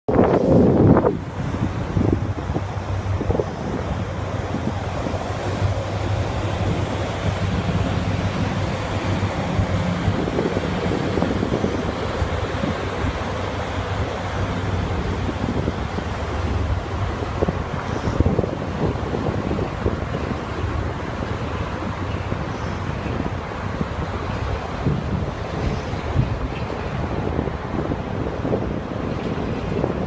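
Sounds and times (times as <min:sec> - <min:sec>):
water rushing from ship wake: 0:00.1 - 0:30.0
wind buffeting microphone: 0:00.1 - 0:30.0.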